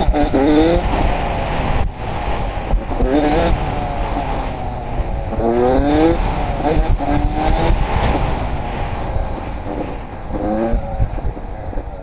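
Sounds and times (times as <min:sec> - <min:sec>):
dirt bike engine accelerating: 0:00.0 - 0:12.0
steady rushing noise: 0:00.0 - 0:12.0.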